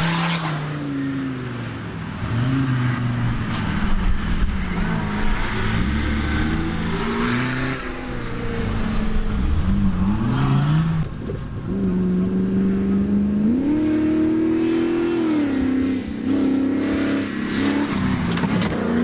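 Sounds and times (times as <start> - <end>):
truck engines revving: 0.0 - 19.0.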